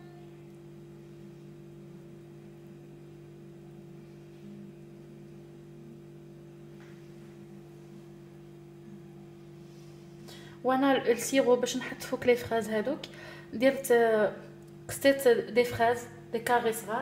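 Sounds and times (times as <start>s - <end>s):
low hum of held tones: 0.0s - 17.0s.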